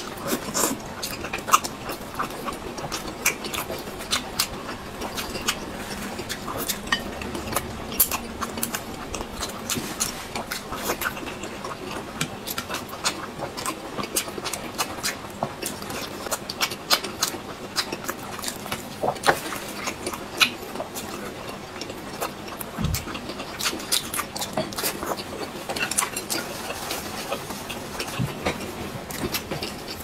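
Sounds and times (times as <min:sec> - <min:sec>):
chewing and mouth smacks: 0:00.0 - 0:30.0.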